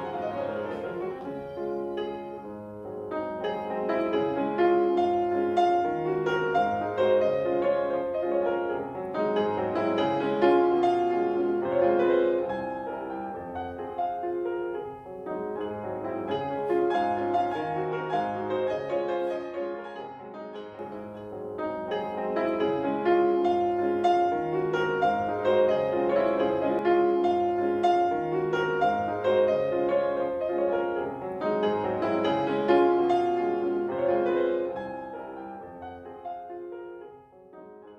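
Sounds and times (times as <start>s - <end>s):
solo piano piece: 0.0s - 37.9s.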